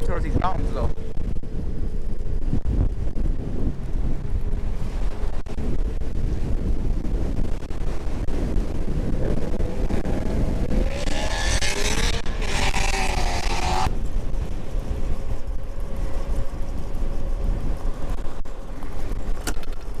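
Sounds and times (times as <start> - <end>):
rising whine: 0.0 - 20.0
wind buffeting microphone: 0.0 - 20.0.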